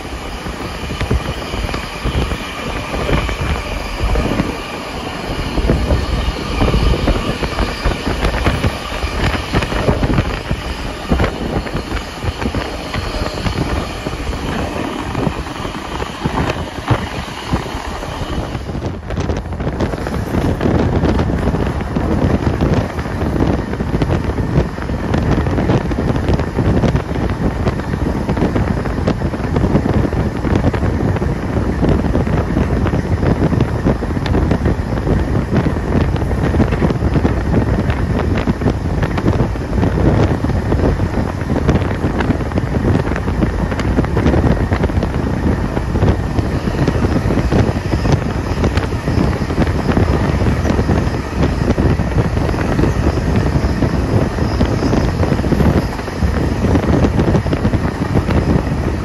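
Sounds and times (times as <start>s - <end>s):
train rumbling on track: 0.0s - 59.0s
wind buffeting microphone: 0.0s - 59.0s.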